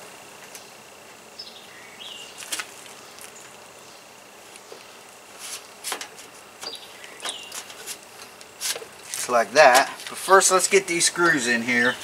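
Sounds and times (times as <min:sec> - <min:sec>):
faint insect buzz: 0:00.0 - 0:12.0.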